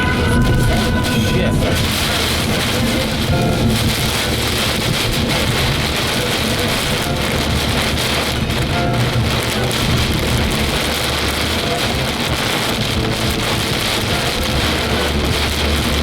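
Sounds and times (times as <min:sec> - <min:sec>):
car rumbling on road: 0:00.0 - 0:16.0
heavy rain on a car: 0:00.0 - 0:16.0.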